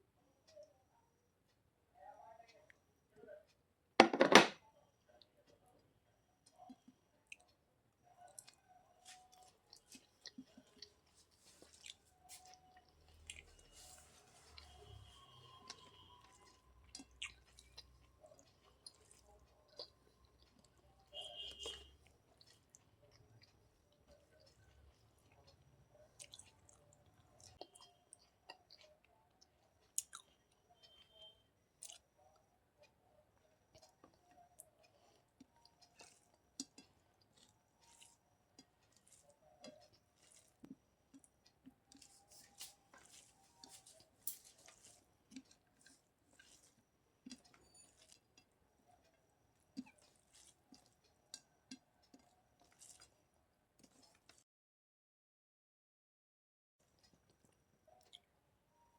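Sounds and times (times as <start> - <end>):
person chewing food: 6.4 - 54.4, 56.8 - 58.4.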